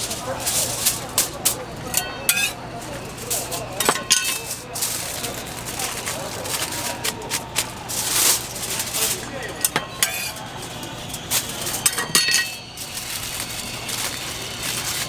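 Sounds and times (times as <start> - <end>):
faint sizzle: 0.0 - 15.0
metal utensils clinking and scraping: 0.0 - 15.0.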